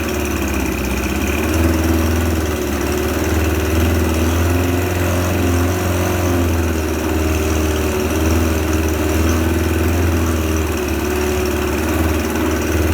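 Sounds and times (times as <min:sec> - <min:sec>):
outboard motor running: 0:00.0 - 0:12.9.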